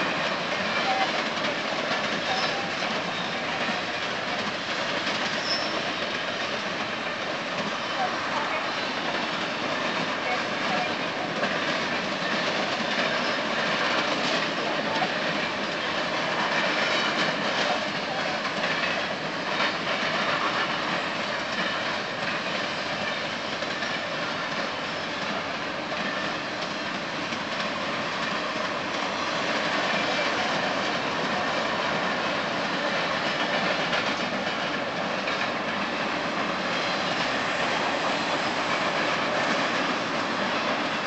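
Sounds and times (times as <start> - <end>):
train wheels rattling on rail: 0.0 - 41.0
wheels clacking over rail joints: 0.0 - 41.0.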